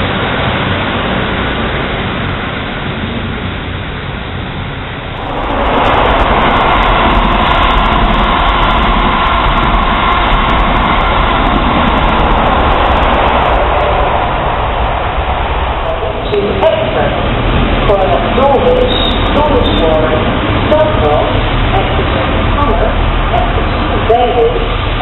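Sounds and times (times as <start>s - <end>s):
diesel locomotive running: 0.0s - 25.0s
diesel train pulling away: 0.0s - 25.0s.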